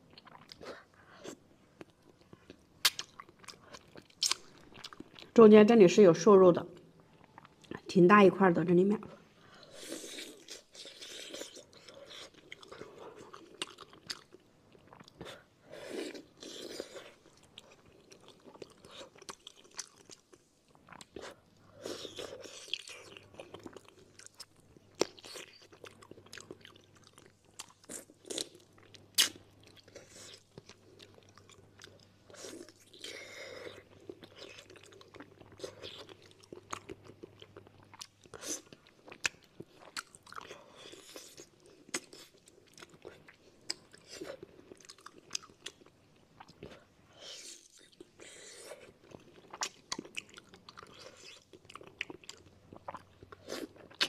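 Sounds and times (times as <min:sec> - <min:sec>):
wet chewing and mouth sounds: 0:00.0 - 0:05.4, 0:09.6 - 0:54.0.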